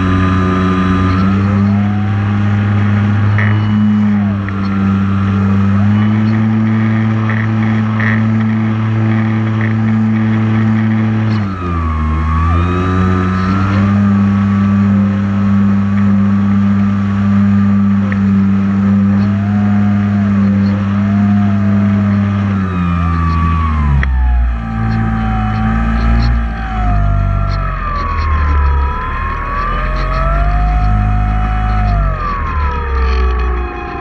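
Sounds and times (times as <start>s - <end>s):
drone propellers humming: 0.0s - 34.0s.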